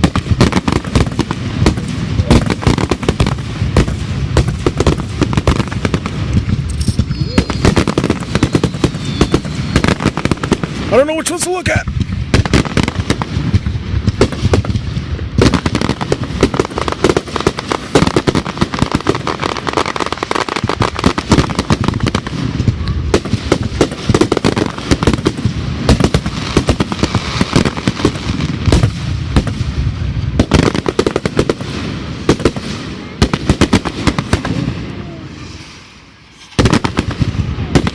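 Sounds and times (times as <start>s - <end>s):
fireworks bangs and crackling: 0.0s - 37.9s.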